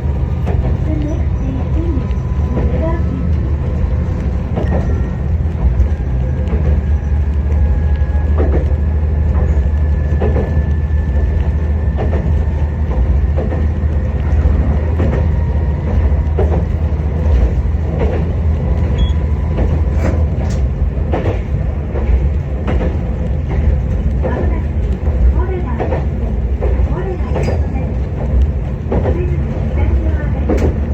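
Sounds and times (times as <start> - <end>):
railcar rumble: 0.0 - 30.9
wheels clacking over rail joints: 0.0 - 30.9.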